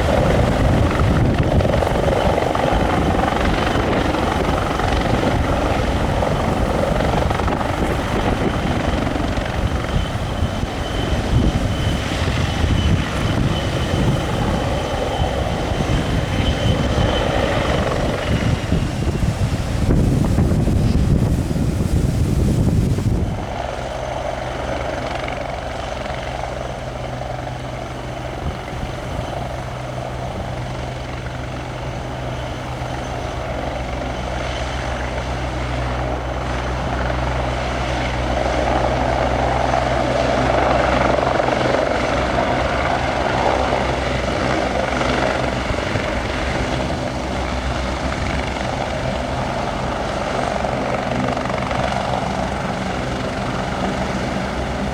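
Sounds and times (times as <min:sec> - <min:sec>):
helicopter rotor and engine hum: 0:00.0 - 0:54.9
wind buffeting microphone: 0:00.0 - 0:54.9.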